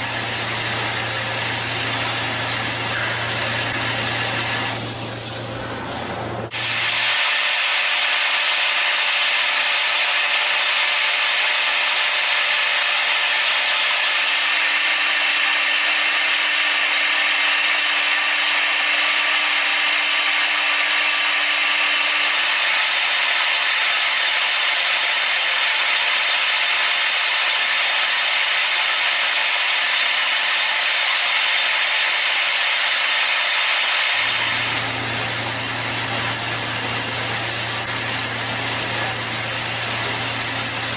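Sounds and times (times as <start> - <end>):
machine running harshly: 0.0 - 40.9
thin high whine: 0.0 - 40.9.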